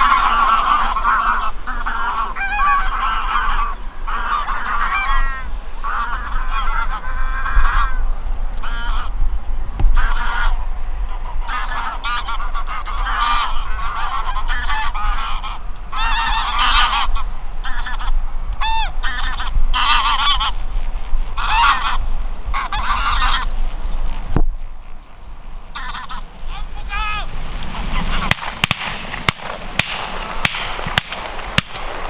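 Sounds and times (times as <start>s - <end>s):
geese honking: 0.0s - 9.2s, 9.9s - 24.0s, 25.0s - 32.0s.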